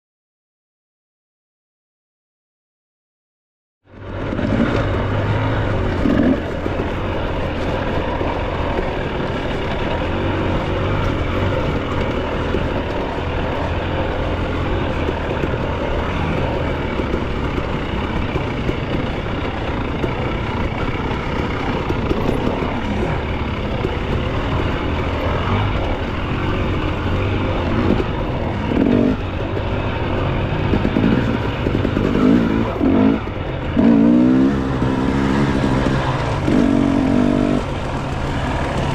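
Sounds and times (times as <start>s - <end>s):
dirt bike engine running: 3.9s - 38.9s.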